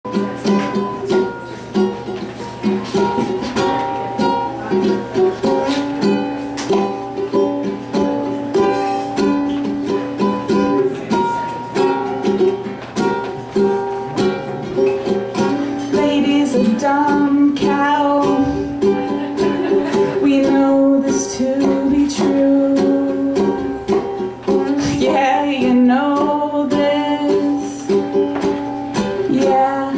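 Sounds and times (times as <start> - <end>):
ukulele strumming chords: 0.0 - 29.9.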